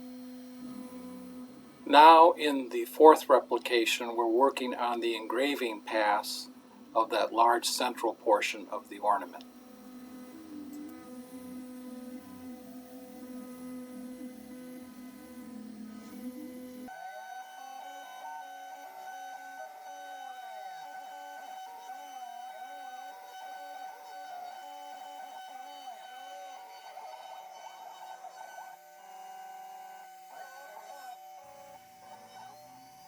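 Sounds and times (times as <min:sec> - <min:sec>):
stepper motors whining: 0:00.0 - 0:03.4, 0:04.1 - 0:33.0
router spindle whine: 0:00.0 - 0:33.0.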